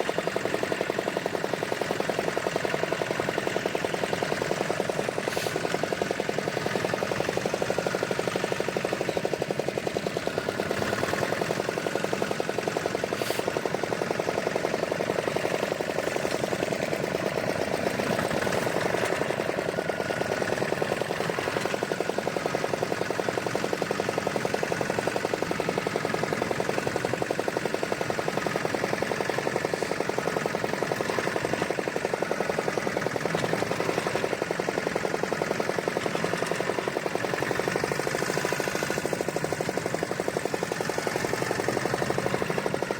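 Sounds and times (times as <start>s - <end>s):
boat engine knocking: 0.0s - 42.9s.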